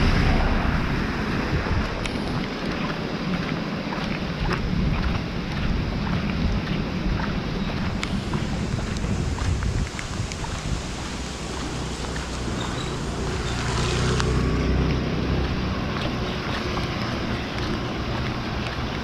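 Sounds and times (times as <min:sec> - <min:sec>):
rain hissing: 0:00.0 - 0:03.8, 0:04.7 - 0:16.3
wind buffeting microphone: 0:00.0 - 0:19.0.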